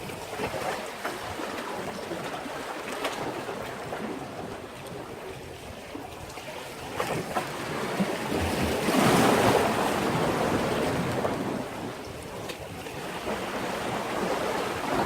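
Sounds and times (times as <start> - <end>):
sea waves against a breakwater: 0.0 - 15.0.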